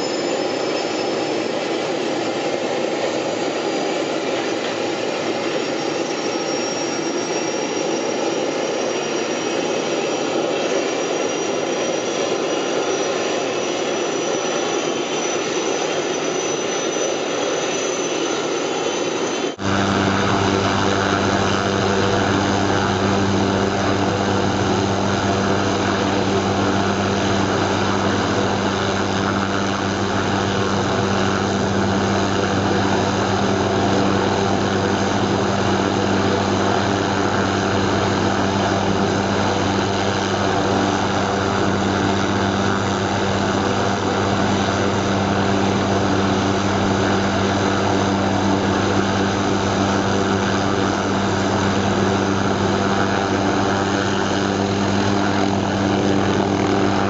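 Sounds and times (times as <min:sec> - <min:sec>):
helicopter running: 0:00.0 - 0:57.0.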